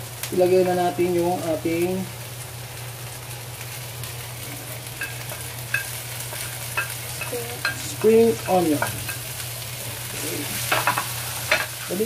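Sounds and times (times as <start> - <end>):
shrimp sizzling in hot oil: 0.0 - 12.0.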